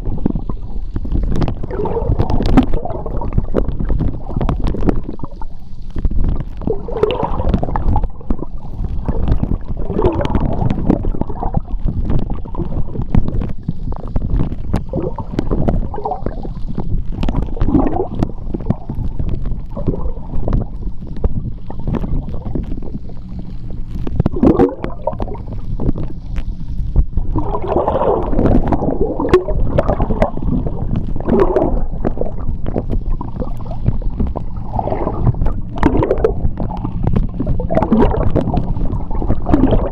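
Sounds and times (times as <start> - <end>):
bubbling and gurgling: 0.0 - 39.9
underwater water rumble: 0.0 - 39.9.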